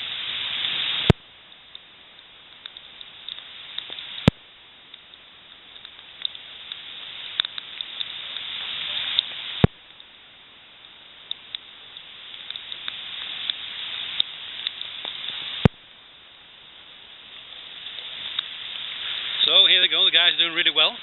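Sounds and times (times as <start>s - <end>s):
rain pattering on leaves: 0.0s - 21.0s.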